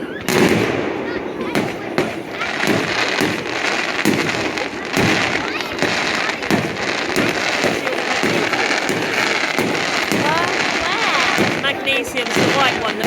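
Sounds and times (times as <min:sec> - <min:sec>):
continuous background noise: 0:00.0 - 0:13.0
fireworks shells bursting: 0:00.0 - 0:13.0.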